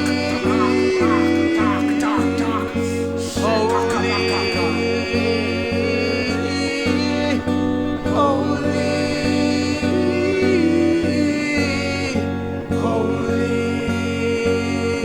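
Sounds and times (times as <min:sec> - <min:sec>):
person singing: 0:00.0 - 0:15.0
plucked-string notes: 0:00.0 - 0:15.0
sustained pitched backing: 0:00.0 - 0:15.0.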